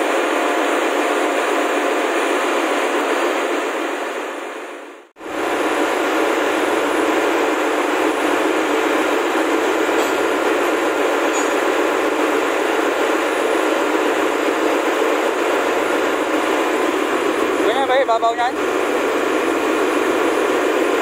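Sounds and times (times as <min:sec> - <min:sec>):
engine-room machinery roar: 0:00.0 - 0:21.0.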